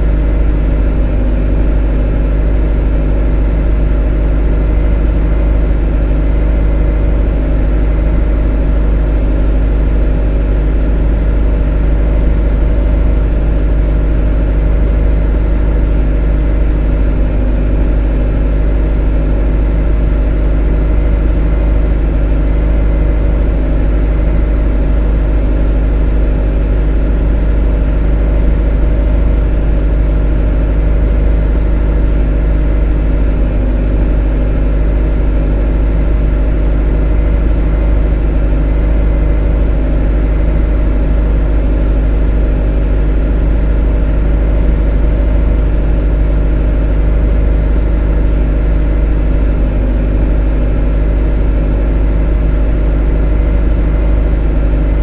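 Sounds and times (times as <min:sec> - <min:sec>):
motor droning steadily: 0:00.0 - 0:55.0.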